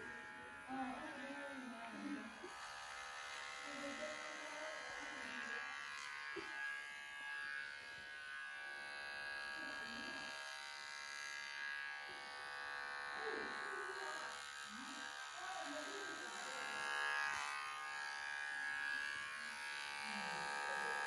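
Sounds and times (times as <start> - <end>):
electric hair clippers buzzing: 0.0 - 21.0.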